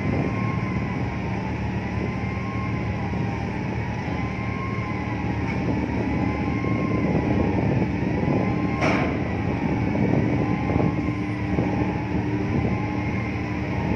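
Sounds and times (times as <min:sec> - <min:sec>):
ship engine rumble: 0:00.0 - 0:13.9.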